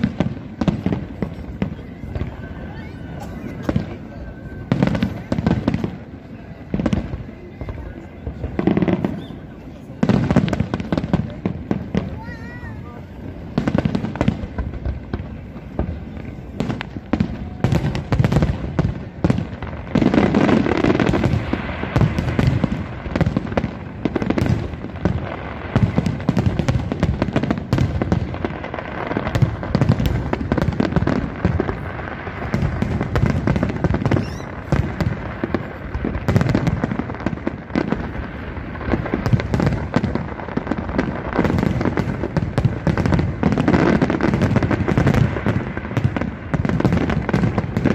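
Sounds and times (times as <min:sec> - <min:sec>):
fireworks booming and crackling: 0:00.0 - 0:47.9.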